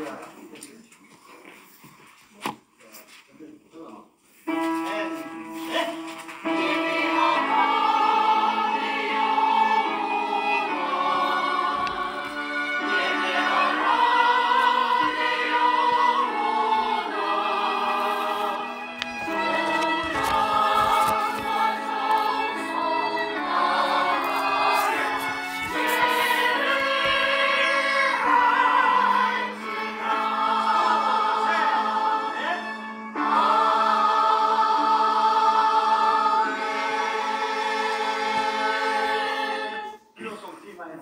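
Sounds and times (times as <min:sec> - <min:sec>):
church choir singing a hymn: 0:04.5 - 0:40.2.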